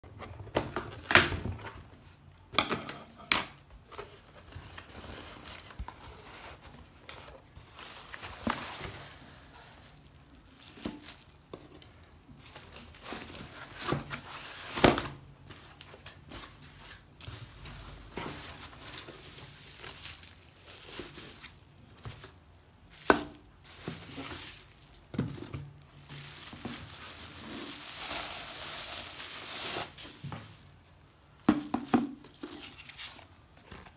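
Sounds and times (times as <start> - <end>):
plastic film crinkling: 3.8 - 33.9.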